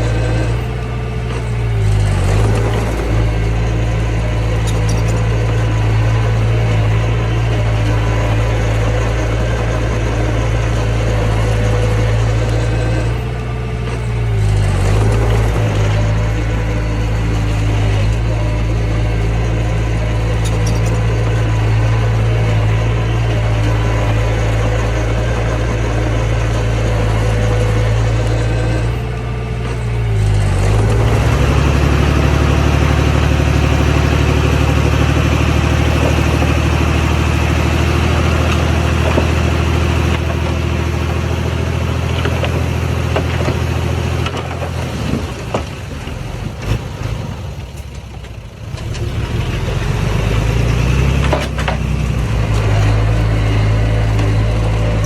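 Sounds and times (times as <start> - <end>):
diesel engine revving: 0.0 - 55.0
rattling: 0.0 - 55.0.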